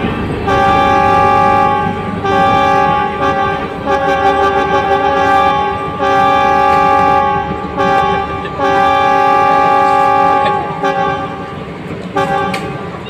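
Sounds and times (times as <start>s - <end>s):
train horn blasts: 0.0s - 13.0s.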